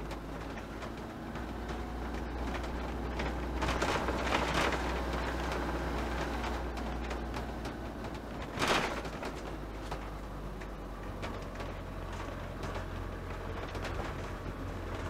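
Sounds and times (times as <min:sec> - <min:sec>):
engine hum: 0:00.0 - 0:15.0
small rattles: 0:00.0 - 0:15.0.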